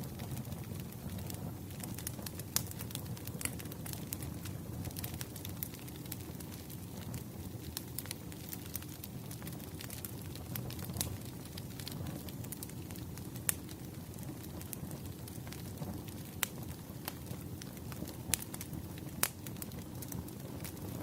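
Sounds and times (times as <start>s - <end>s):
bonfire low rumble: 0.0s - 21.0s
fire crackling and popping: 0.0s - 21.0s.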